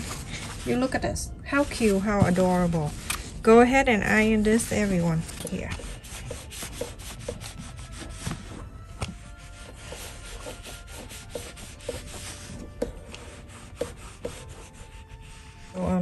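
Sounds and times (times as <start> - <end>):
iron rubbing over fabric: 0.0 - 16.0.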